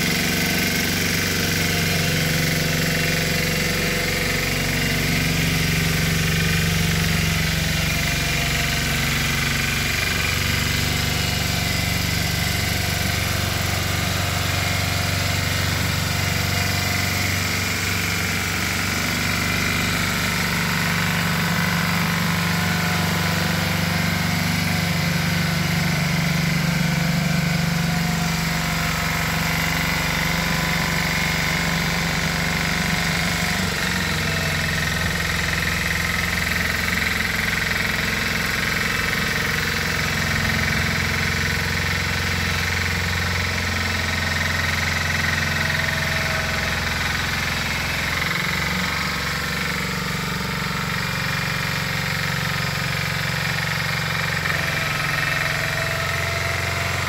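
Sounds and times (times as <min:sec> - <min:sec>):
tiller engine running: 0:00.0 - 0:57.0.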